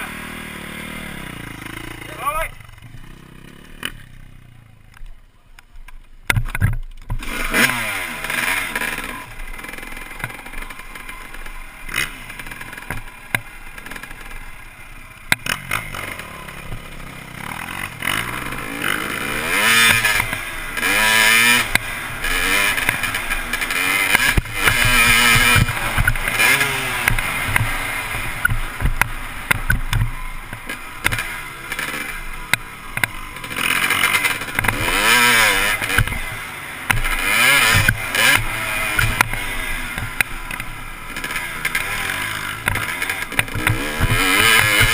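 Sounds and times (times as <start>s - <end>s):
dirt bike engine revving: 0.0s - 5.0s, 6.3s - 44.9s.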